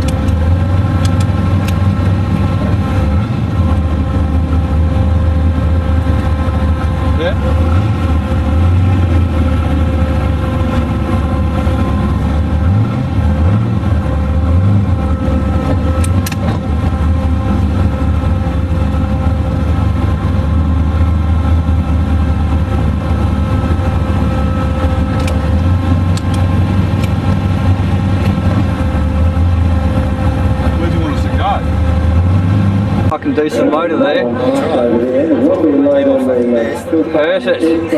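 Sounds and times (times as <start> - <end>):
car engine running low and loud: 0.0 - 37.9.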